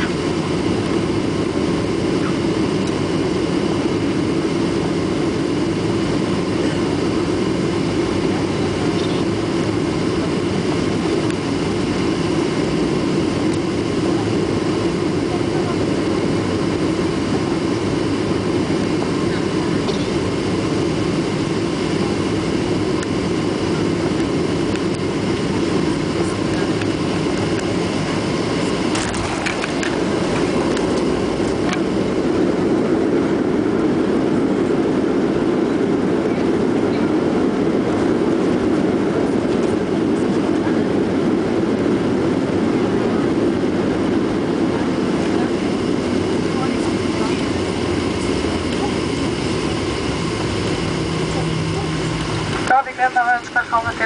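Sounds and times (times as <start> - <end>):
jet engine and airflow noise: 0.0 - 54.0.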